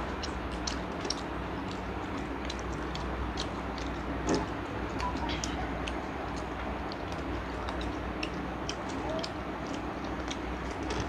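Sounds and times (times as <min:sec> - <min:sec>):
people chewing and lip-smacking: 0:00.0 - 0:11.0
steady low hum: 0:00.0 - 0:11.0.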